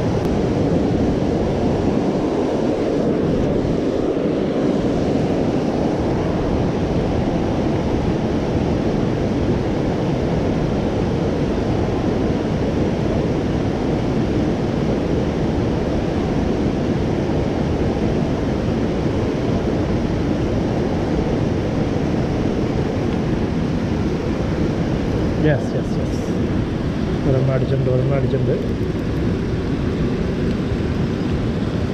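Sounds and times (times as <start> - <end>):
wind on microphone: 0.0 - 31.9.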